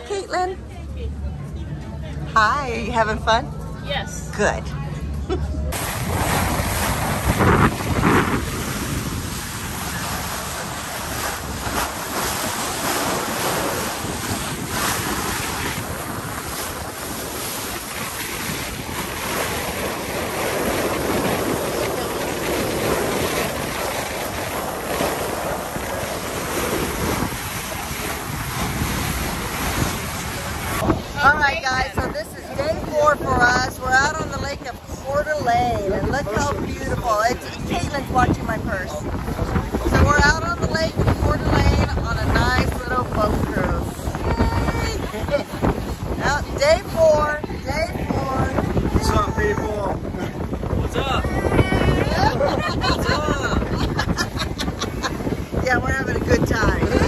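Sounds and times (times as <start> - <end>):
wind rushing over microphone: 0.0 - 57.0
water washing under boat: 5.7 - 57.0.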